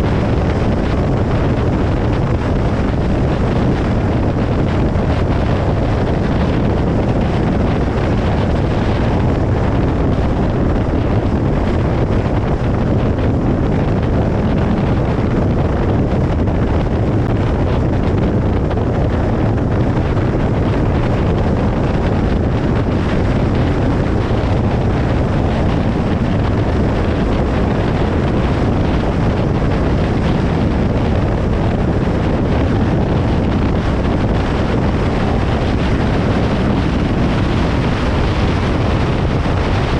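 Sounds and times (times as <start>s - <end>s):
car road noise on highway: 0.0s - 39.9s.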